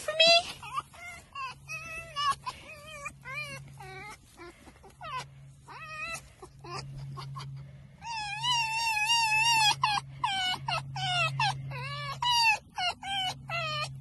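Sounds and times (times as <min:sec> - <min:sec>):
fox quavering whine: 0:00.0 - 0:14.0
fox squealing playfully: 0:00.0 - 0:14.0.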